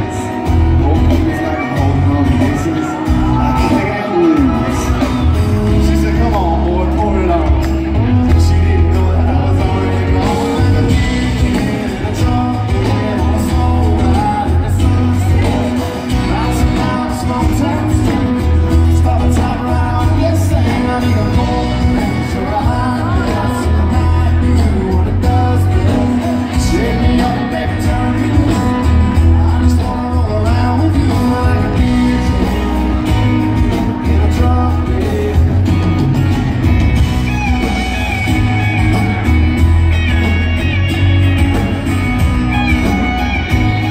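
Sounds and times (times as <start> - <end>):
country band playing live: 0.0 - 43.9
man singing: 0.0 - 43.9.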